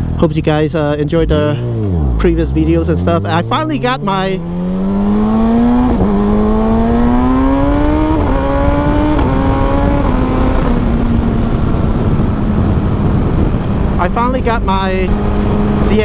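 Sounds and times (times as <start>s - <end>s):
motorcycle engine accelerating: 0.0s - 16.0s
wind rushing: 1.2s - 16.0s.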